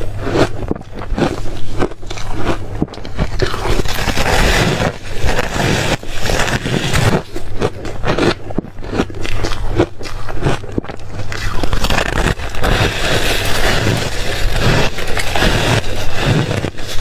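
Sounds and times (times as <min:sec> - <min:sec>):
chewing ice crunches: 0:00.0 - 0:17.0.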